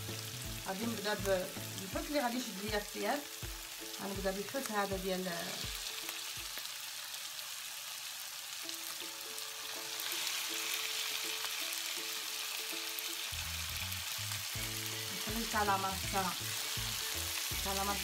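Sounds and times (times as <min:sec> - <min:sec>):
fish sizzling in a pan: 0:00.0 - 0:18.0.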